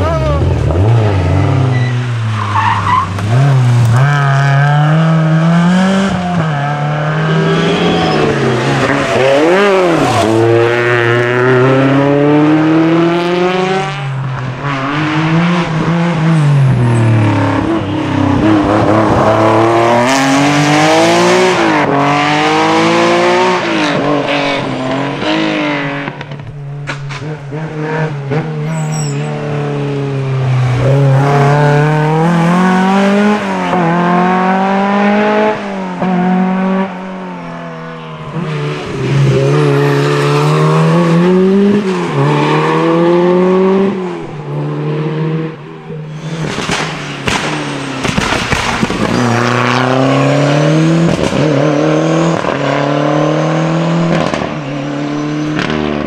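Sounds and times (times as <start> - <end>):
rally car engine revving: 0.0 - 56.0
second rally car engine: 0.0 - 56.0.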